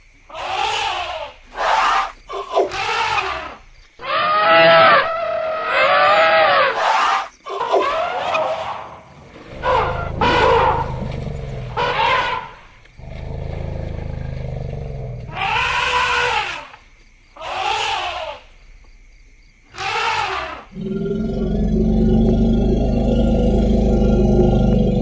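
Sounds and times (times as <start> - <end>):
elephants trumpeting: 2.7 - 16.8, 17.4 - 18.4, 19.8 - 25.0.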